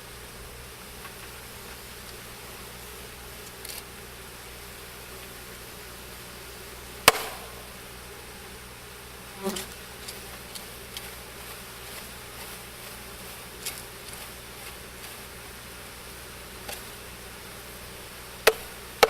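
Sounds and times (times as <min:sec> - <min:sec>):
honey bees buzzing: 0:00.0 - 0:19.0.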